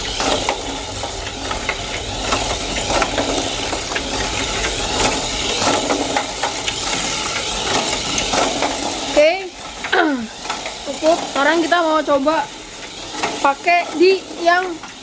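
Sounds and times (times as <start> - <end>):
toy car clattering against track: 0.0 - 15.0
toy car motor whirring: 0.0 - 15.0.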